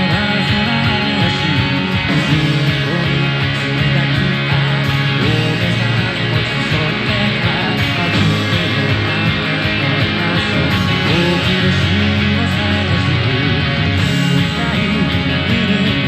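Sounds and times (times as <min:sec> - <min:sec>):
electric guitar playing rock: 0:00.0 - 0:16.0.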